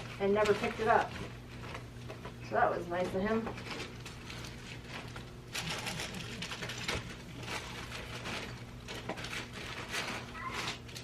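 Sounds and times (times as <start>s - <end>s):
items rustling and knocking: 0.0s - 11.0s
steady low hum: 0.0s - 11.0s.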